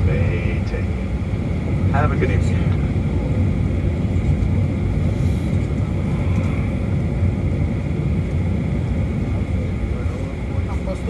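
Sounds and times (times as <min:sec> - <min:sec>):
airplane cabin rumble: 0:00.0 - 0:11.0
faint high hum: 0:00.0 - 0:11.0.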